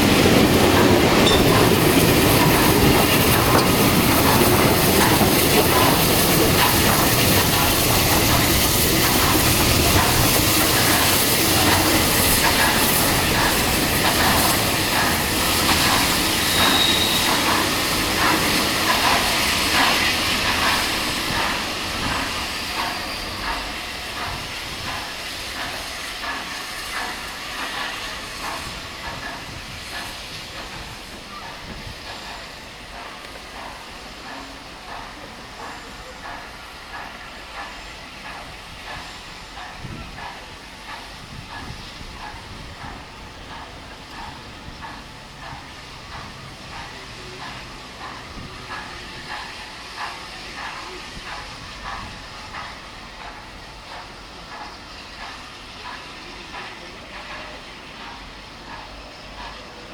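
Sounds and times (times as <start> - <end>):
steam engine chuffing beats: 0.0 - 59.9
steam train hissing: 0.0 - 59.9.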